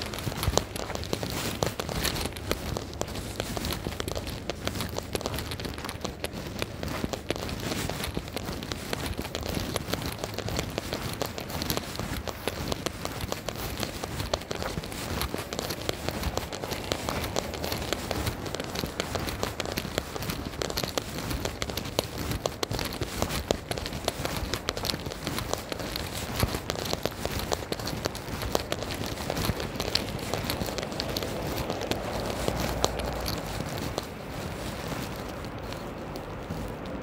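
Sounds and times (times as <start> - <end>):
raindrop ticks: 0.0 - 37.0.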